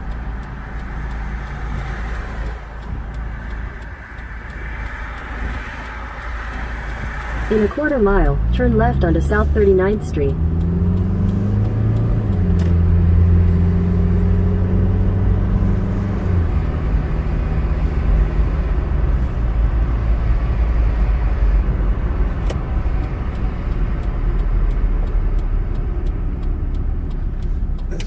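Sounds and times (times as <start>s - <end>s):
car engine drone: 0.0s - 28.0s
tyres rumbling on road: 0.0s - 28.0s.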